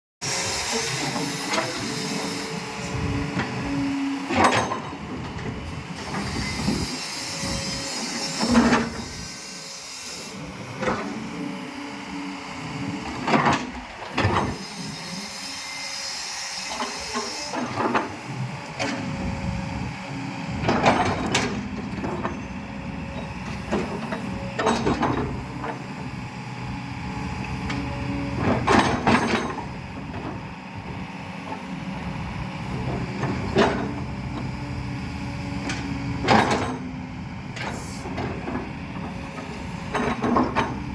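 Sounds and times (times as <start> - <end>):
excavator engine humming: 0.2 - 40.9.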